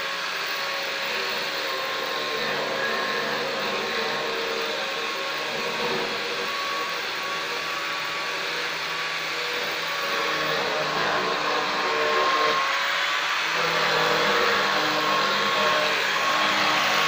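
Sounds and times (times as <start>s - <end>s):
angle grinder grinding stone: 0.0s - 17.0s.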